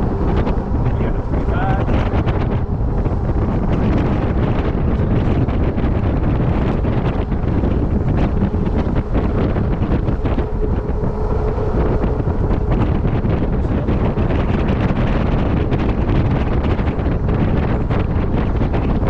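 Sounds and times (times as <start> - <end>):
faint steady whine: 0.0 - 19.0
wind buffeting microphone: 0.0 - 19.0.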